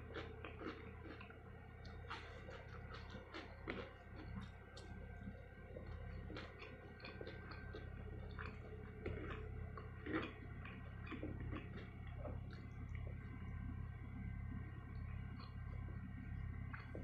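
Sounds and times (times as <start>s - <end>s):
close-up chewing: 0.0s - 17.0s
steady low hum: 0.0s - 17.0s.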